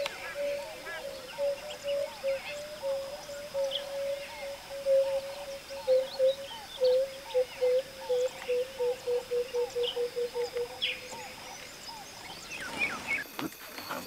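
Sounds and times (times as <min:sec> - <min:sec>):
bird chirps: 0:00.0 - 0:14.0
bird cooing: 0:00.0 - 0:14.0.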